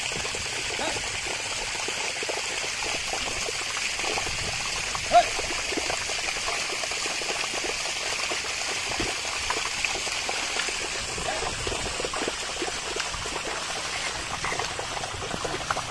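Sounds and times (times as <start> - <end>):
hooves splashing in muddy water: 0.0 - 15.9.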